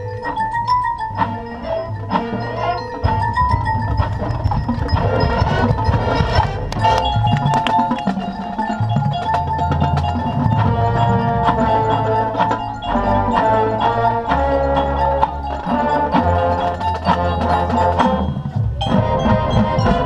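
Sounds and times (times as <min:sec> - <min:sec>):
marimba xylophone and glockenspiel: 0:00.0 - 0:20.0
held brass chords: 0:01.0 - 0:20.0
drum strikes: 0:02.1 - 0:20.0.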